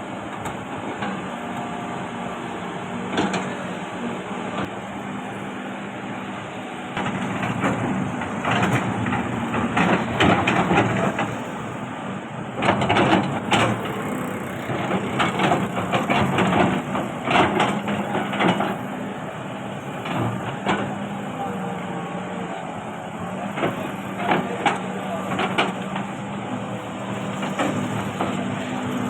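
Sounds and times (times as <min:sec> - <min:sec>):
excavator diesel engine: 0:00.0 - 0:29.0.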